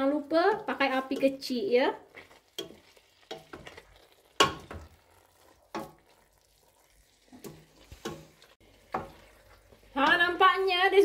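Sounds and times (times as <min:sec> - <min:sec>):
faint sizzle: 0:00.0 - 0:11.0
utensil knocking and scraping pot: 0:00.4 - 0:06.3, 0:07.3 - 0:10.5.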